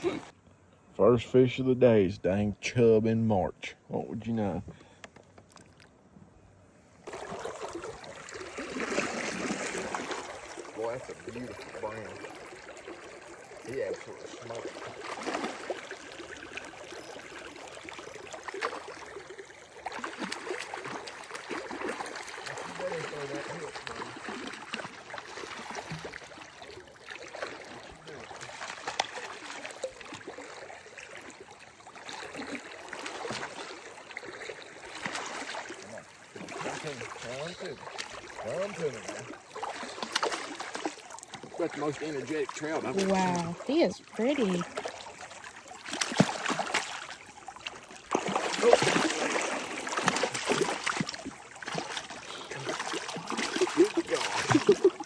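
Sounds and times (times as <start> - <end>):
water lapping around a kayak: 0.0 - 2.4, 3.7 - 55.0.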